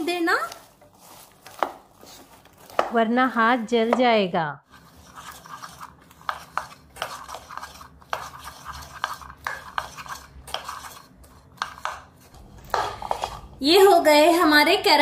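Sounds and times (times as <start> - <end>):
spatula scraping popcorn in pan: 0.0 - 4.1, 4.7 - 13.8.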